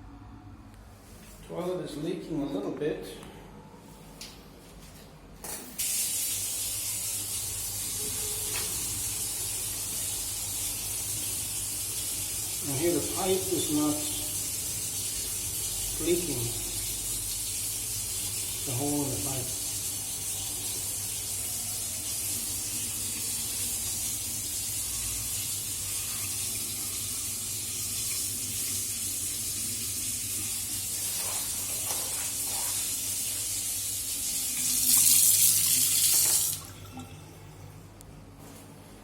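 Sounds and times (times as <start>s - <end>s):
water running: 5.8s - 37.2s.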